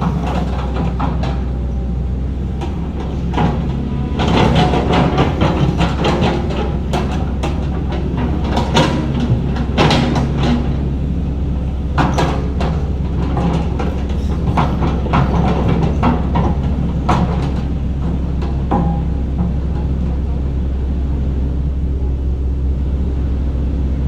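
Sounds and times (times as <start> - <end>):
metal clanks and knocks: 0.0 - 21.2
heavy machinery diesel engine: 0.0 - 24.0.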